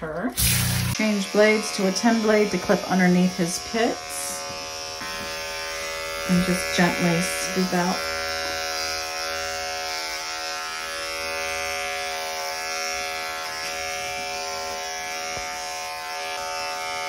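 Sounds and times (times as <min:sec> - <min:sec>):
dog clipper humming: 0:00.0 - 0:17.0.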